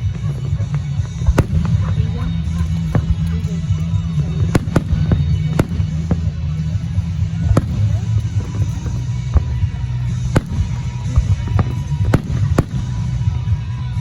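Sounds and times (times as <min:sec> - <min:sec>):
fireworks bangs: 0:00.0 - 0:14.0
low rumble: 0:00.0 - 0:14.0.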